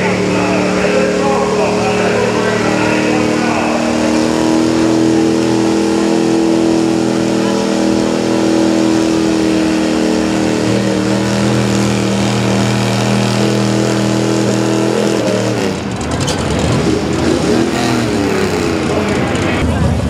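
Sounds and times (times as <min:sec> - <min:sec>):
truck engine revving under load: 0:00.0 - 0:20.0.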